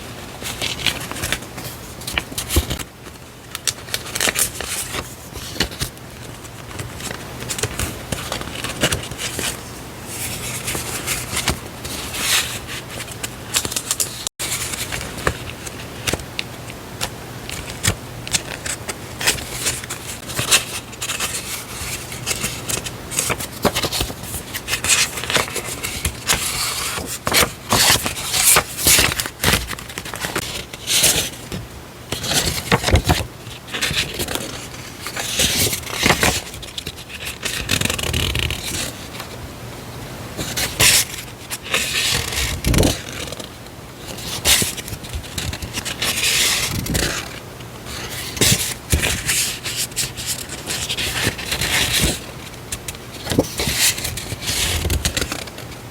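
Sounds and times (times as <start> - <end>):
paper rustling and crinkling: 0.0 - 39.4, 40.4 - 55.9.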